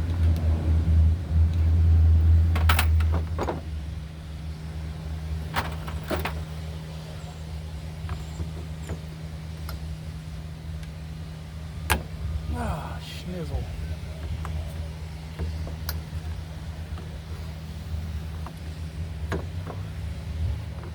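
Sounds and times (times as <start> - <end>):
low machine hum: 0.0 - 20.9.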